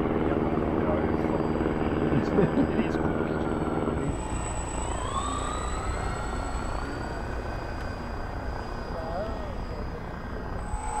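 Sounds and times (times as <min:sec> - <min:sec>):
model plane propeller motors humming: 0:00.0 - 0:11.0
thin whine rising in pitch: 0:00.0 - 0:11.0.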